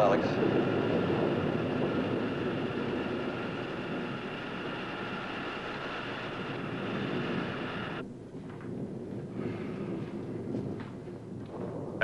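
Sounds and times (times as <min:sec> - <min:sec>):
power plant machinery humming: 0:00.0 - 0:12.0.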